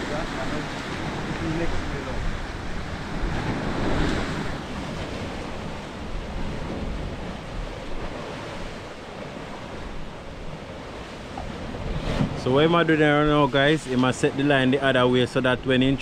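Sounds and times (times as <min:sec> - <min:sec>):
surf rushing: 0:00.0 - 0:16.0
wind buffeting microphone: 0:00.0 - 0:16.0.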